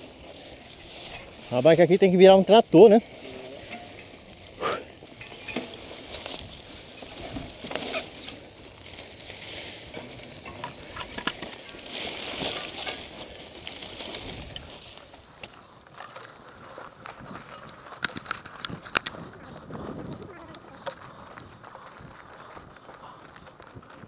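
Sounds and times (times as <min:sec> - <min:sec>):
leaves and stems brushing: 0:00.0 - 0:04.6, 0:05.2 - 0:24.0
bike clicks and rattles: 0:00.0 - 0:24.0
footsteps on dirt: 0:00.0 - 0:24.0.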